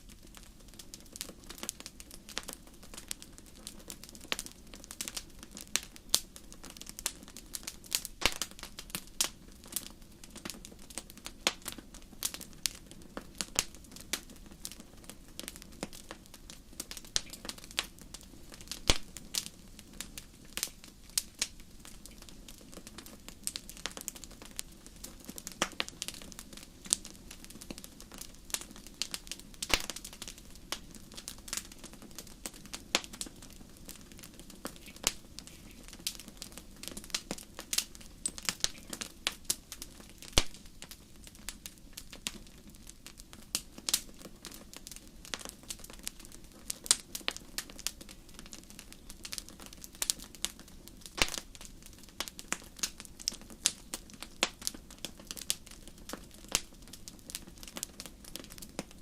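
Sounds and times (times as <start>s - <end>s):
low fire rumble: 0.0s - 59.0s
wood fire crackling and popping: 0.0s - 59.0s.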